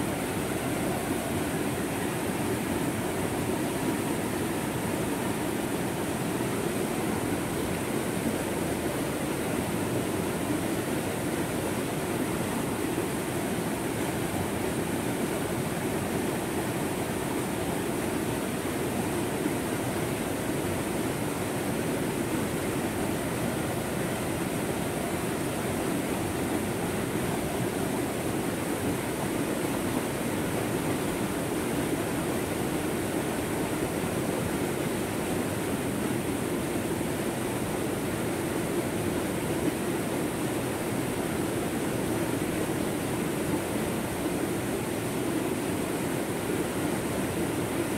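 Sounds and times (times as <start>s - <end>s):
stream rushing over boulders: 0.0s - 47.9s.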